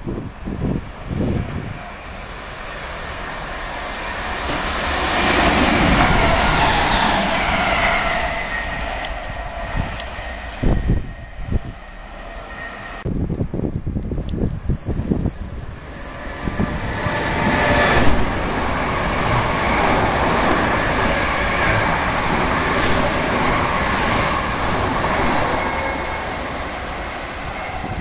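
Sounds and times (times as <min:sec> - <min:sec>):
wind buffeting microphone: 0:00.0 - 0:02.2, 0:04.5 - 0:12.0, 0:13.0 - 0:28.0
train rushing past: 0:00.4 - 0:13.4, 0:14.4 - 0:28.0.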